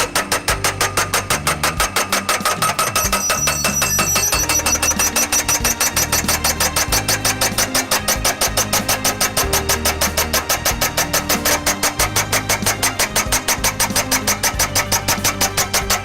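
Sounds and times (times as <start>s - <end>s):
machine engine running: 0.0s - 16.0s
pile driver hammer blows: 0.0s - 16.0s.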